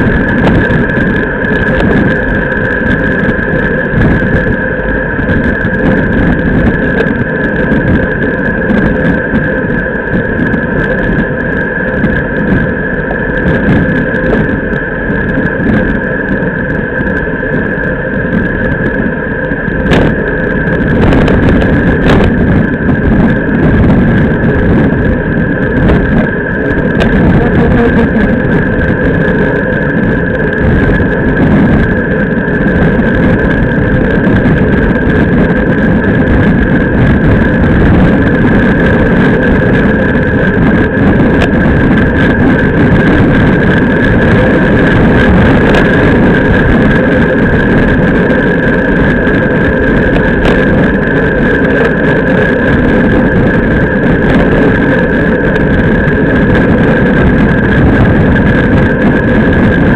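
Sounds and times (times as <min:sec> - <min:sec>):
steady high hum: 0:00.0 - 0:59.9
tyres rumbling on asphalt: 0:00.0 - 0:59.9
wind on microphone: 0:00.0 - 0:59.9.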